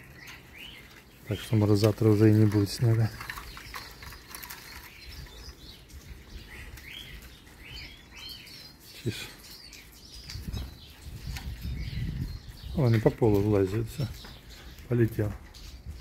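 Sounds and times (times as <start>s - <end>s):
finches chirping: 0.0s - 16.0s
wing flutter and rustling: 0.0s - 16.0s.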